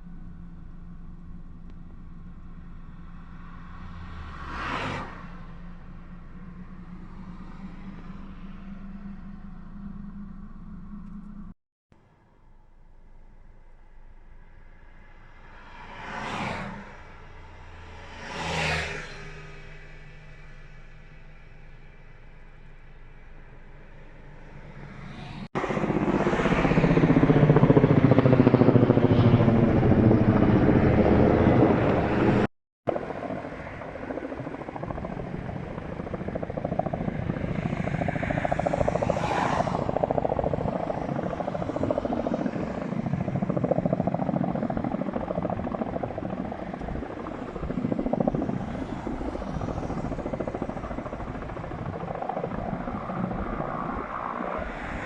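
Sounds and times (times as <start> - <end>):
helicopter flying overhead: 0.0 - 11.6, 14.0 - 55.0.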